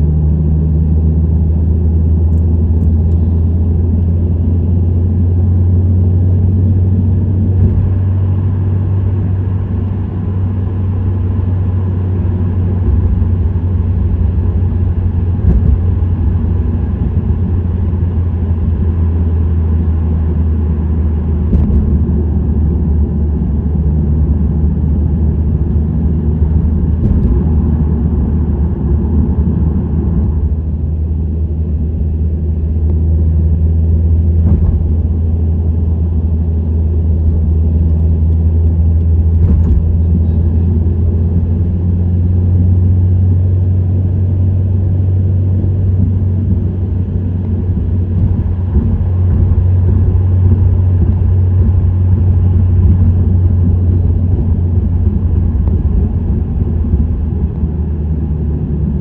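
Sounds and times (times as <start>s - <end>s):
low exhaust hum: 0.0s - 59.0s
road noise: 0.0s - 59.0s.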